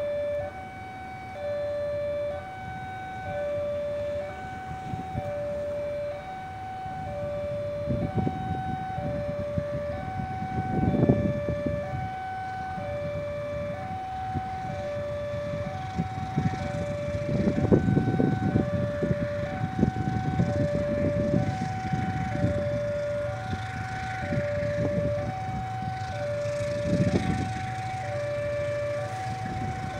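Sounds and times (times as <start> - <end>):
level crossing two-tone alarm: 0.0 - 29.9.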